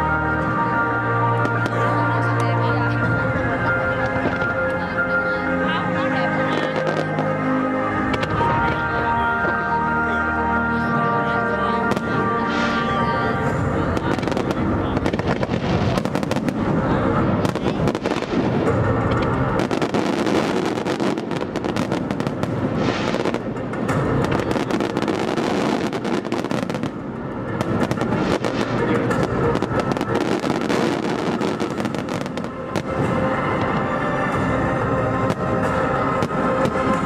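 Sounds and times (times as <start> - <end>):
fireworks crackling: 0.0 - 37.0.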